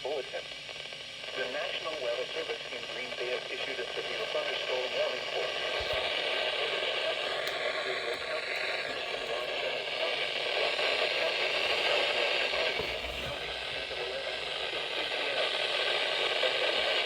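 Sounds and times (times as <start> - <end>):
radio static hiss: 0.0 - 17.0
voice under static: 0.0 - 17.0.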